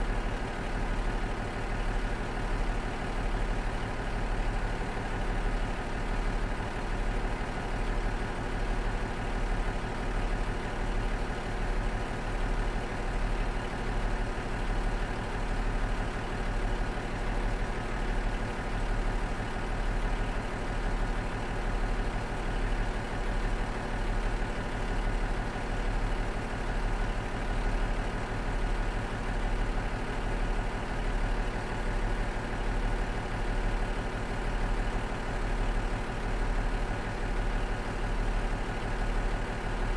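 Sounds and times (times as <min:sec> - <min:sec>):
railcar diesel engine idling: 0:00.0 - 0:39.9.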